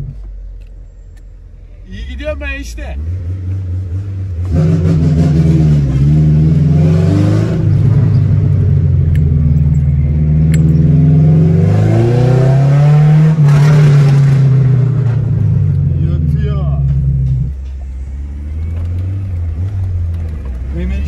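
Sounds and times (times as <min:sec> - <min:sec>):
car engine revving: 0:01.9 - 0:21.0.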